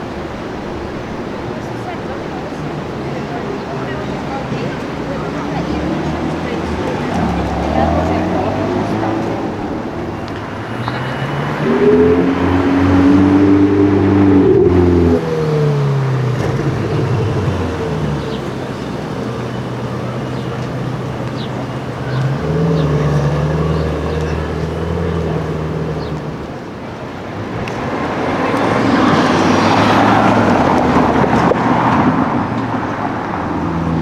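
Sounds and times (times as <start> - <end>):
louder car engine: 0.0 - 34.0
sports car engines: 0.0 - 34.0.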